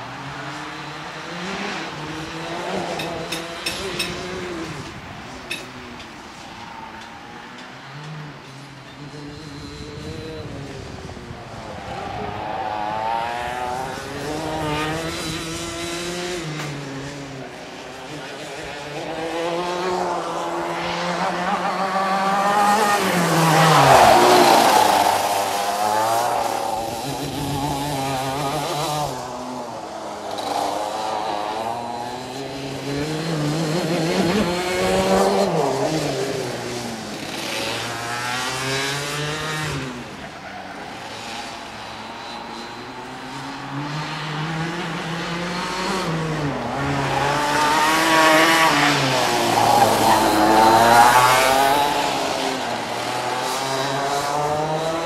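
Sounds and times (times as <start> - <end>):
kart engine accelerating: 0.0 - 55.0.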